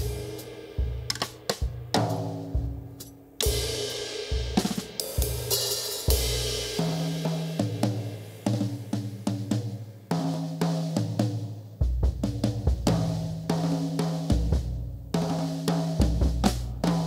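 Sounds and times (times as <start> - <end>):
snare and tom strokes: 0.0 - 17.0.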